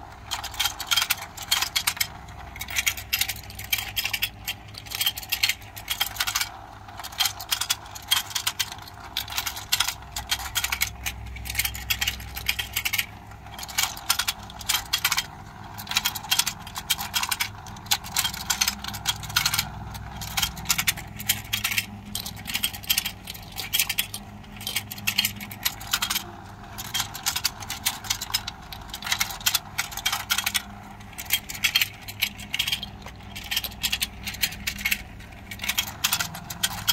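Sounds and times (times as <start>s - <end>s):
plastic toy fish clicking and clattering: 0.0s - 36.9s.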